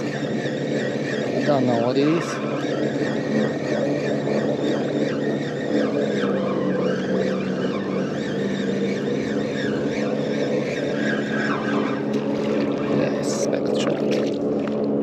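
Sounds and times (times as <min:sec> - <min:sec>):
fishing reel whirring: 0:00.0 - 0:15.0.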